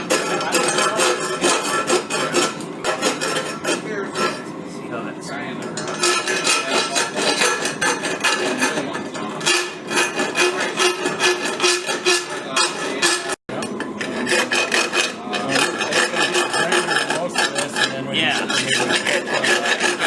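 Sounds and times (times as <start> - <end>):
file rasping over steel: 0.0 - 4.5, 5.8 - 20.0.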